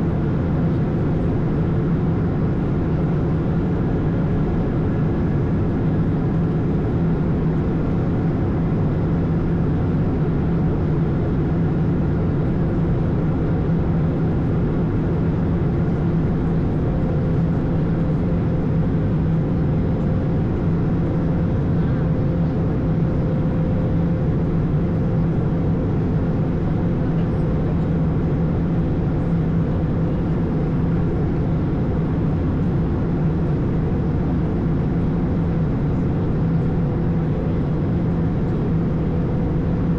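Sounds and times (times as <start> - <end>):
aircraft cabin drone: 0.0 - 39.9.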